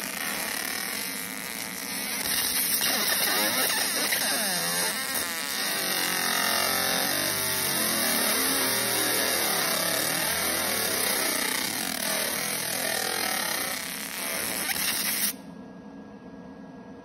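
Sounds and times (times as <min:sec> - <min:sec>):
laser engraver hiss and crackle: 0:00.0 - 0:15.4.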